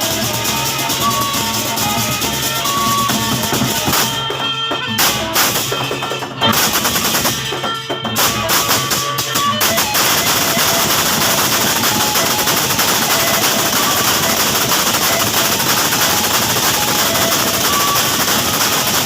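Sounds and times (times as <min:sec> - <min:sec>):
bright metallic percussion: 0:00.0 - 0:19.0
drums beaten rapidly: 0:00.0 - 0:19.0.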